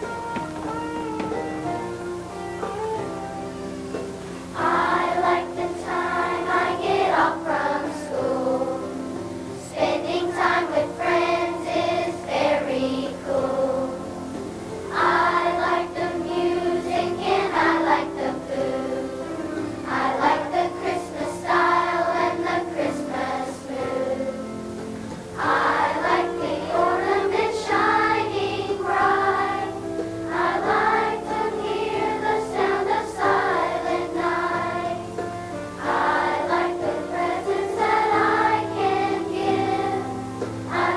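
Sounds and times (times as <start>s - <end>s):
children's choir singing: 0.0s - 40.9s
instrumental accompaniment: 0.0s - 40.9s.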